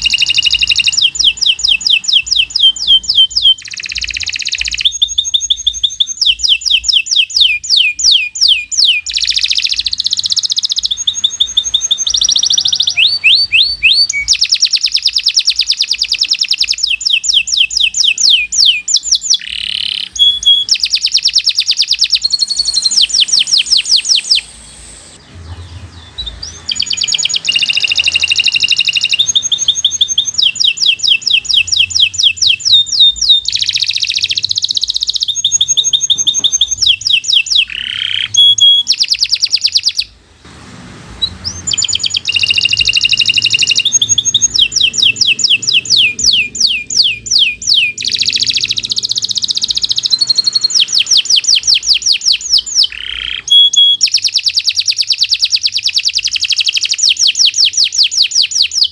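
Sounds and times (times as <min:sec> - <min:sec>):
canary singing trills: 0:00.0 - 0:40.2, 0:41.1 - 0:58.9.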